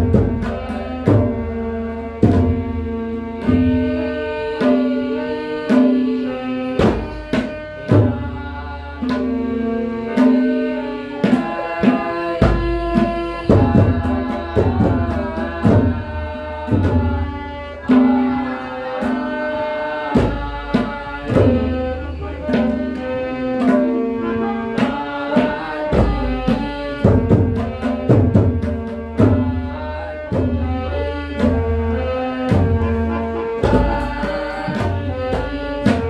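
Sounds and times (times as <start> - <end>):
tabla rhythm: 0.0 - 36.0.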